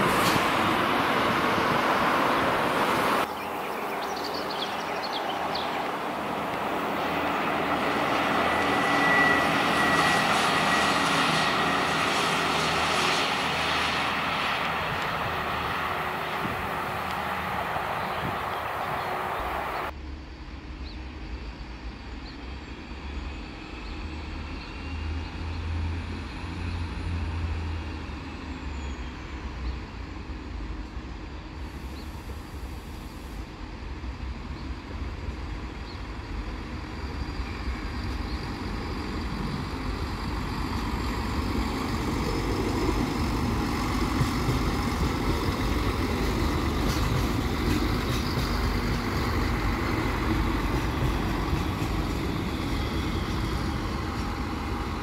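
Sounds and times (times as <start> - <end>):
diesel railcar engine drone: 0.0 - 55.0.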